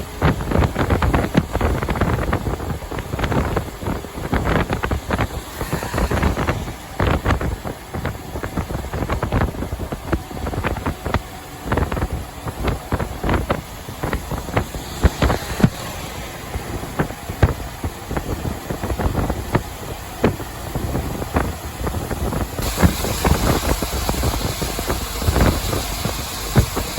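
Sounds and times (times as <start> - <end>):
truck road and engine rumble: 0.0 - 26.9
wind buffeting microphone: 0.0 - 26.9.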